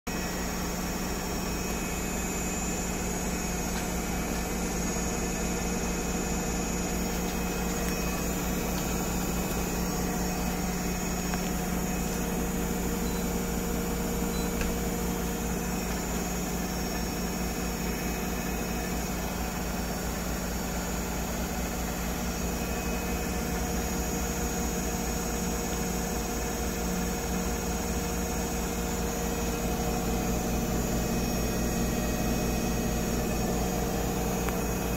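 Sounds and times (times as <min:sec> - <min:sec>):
washing machine drum spinning: 0:00.1 - 0:34.9.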